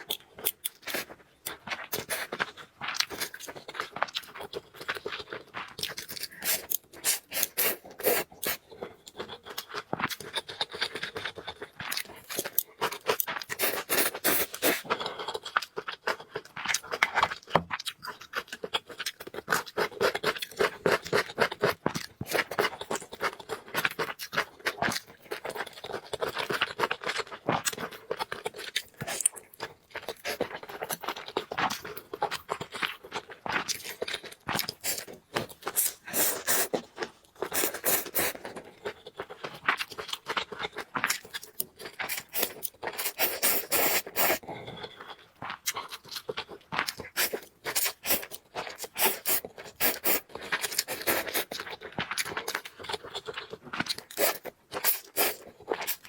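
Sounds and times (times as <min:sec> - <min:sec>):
person eating noodles: 0:00.0 - 0:56.0.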